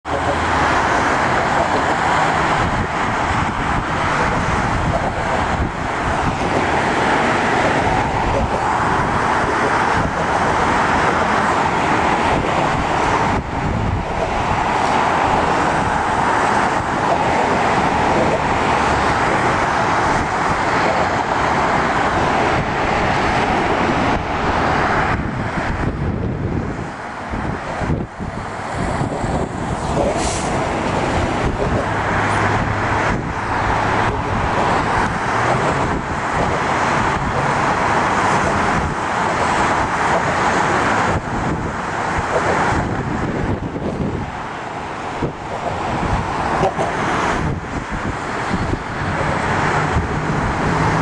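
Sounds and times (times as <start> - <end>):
highway traffic: 0.0 - 51.0.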